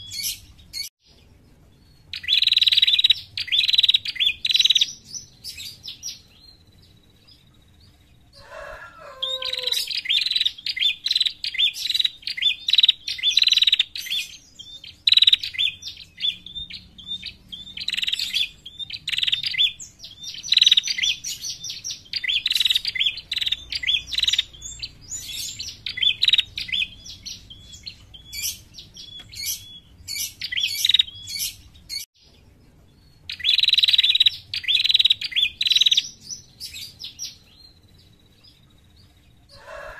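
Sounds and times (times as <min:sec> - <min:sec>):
bird sharp high chirps: 0:00.0 - 0:01.2, 0:01.8 - 0:06.7, 0:08.6 - 0:38.2.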